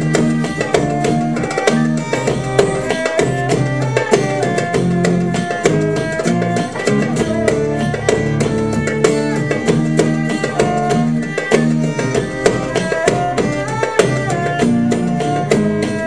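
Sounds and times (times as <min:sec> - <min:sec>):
acoustic guitar: 0:00.0 - 0:16.0
bowed string melody: 0:00.0 - 0:16.0
hand drum strokes: 0:00.0 - 0:16.0.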